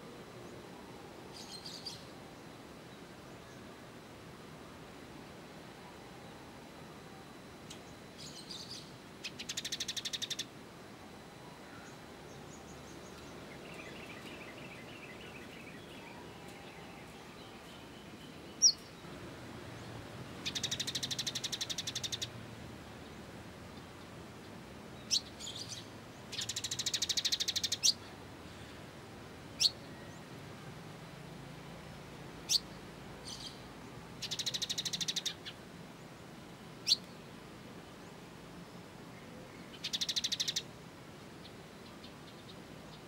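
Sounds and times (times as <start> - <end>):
songbirds chattering trills: 0.2 - 30.4, 31.8 - 43.0.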